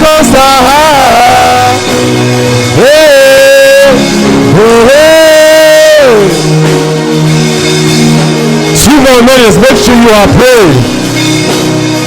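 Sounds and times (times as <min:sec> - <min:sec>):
worship music with keyboard chords: 0:00.0 - 0:12.0.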